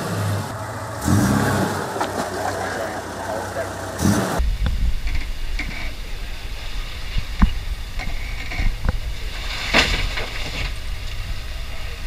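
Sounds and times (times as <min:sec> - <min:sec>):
truck engine running low: 0:00.0 - 0:12.0.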